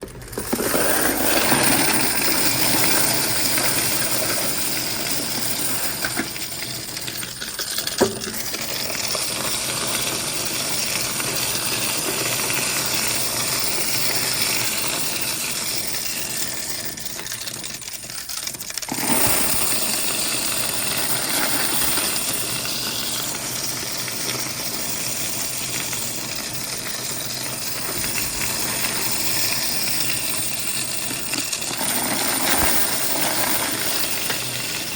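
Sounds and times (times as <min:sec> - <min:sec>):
machine high whine: 0:00.0 - 0:17.2, 0:18.8 - 0:34.9
coins clattering in counting machine: 0:00.0 - 0:34.9.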